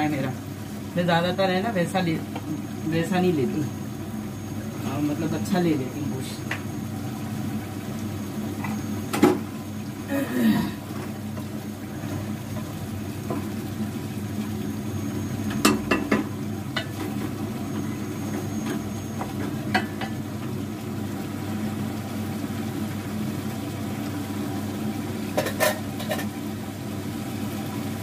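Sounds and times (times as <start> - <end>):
food frying in a pot: 0.0 - 28.0.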